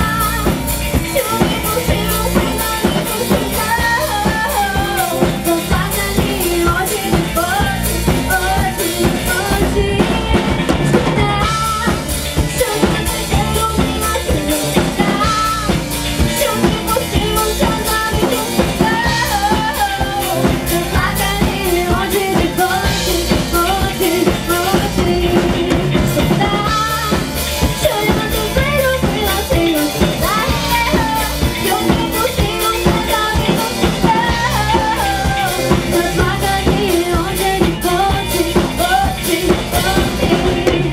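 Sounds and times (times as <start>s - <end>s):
drum kit beat: 0.0s - 40.9s
live band playing pop-rock: 0.0s - 40.9s.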